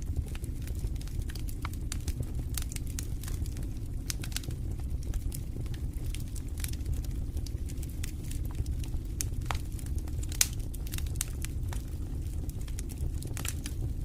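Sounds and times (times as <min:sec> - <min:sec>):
fire crackling and popping: 0:00.0 - 0:14.0
fire rumbling in fireplace: 0:00.0 - 0:14.0.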